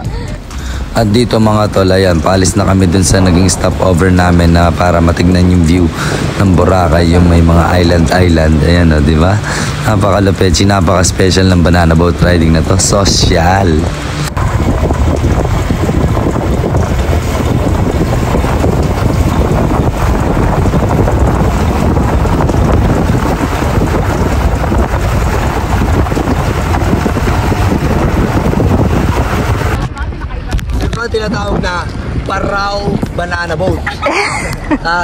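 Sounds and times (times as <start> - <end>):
rush of water: 0.0 - 29.9
wind buffeting microphone: 0.0 - 34.9
boat motor: 0.0 - 35.0.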